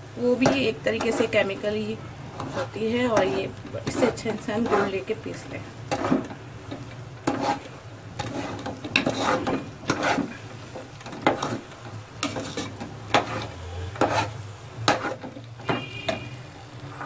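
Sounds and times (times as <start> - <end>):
metal spoon scraping a pot: 0.3 - 1.6, 2.3 - 16.4.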